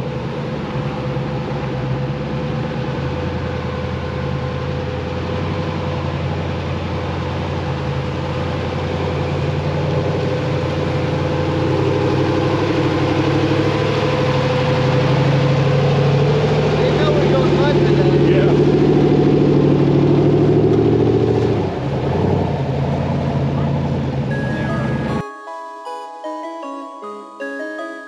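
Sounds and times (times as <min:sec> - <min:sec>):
buggy engine at low revs: 0:00.0 - 0:25.2.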